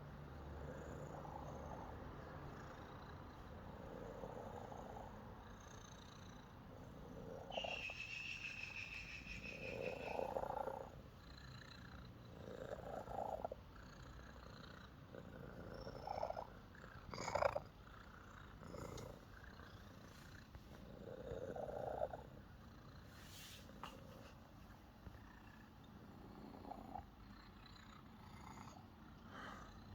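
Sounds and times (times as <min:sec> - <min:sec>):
cat purring: 0:00.0 - 0:08.0, 0:08.8 - 0:29.9.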